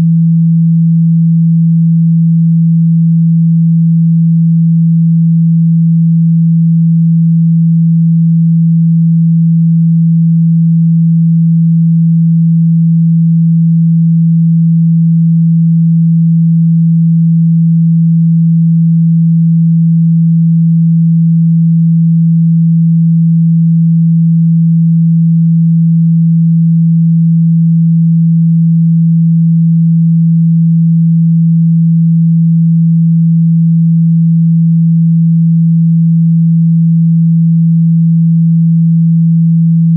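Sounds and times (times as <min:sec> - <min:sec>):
low sine tone: 0:00.0 - 0:39.9.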